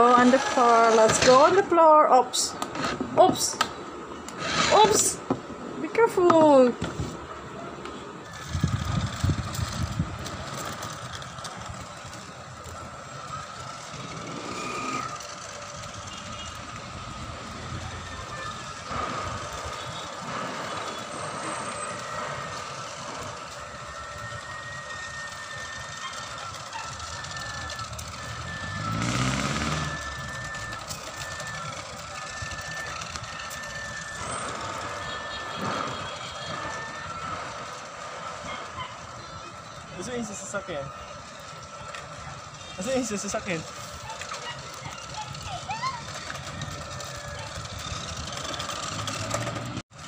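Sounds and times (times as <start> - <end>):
toy car motor whining: 0.0 - 1.6, 4.3 - 5.2, 8.3 - 37.5, 40.9 - 49.8.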